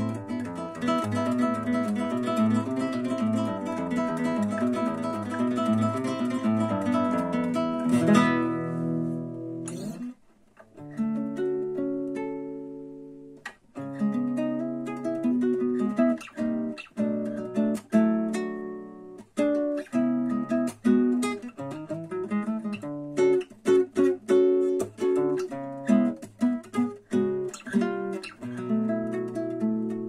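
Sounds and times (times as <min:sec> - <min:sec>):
acoustic guitar chords and notes: 0:00.0 - 0:30.0.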